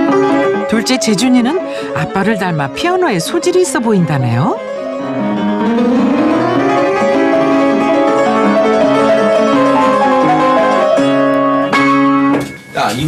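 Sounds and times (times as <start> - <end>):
upright piano played quickly: 0.0 - 13.0.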